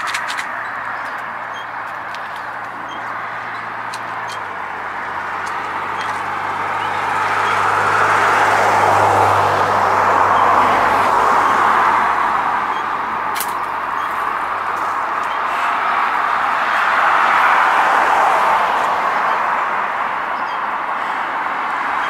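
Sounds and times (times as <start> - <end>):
road vehicle passing: 0.0 - 22.0.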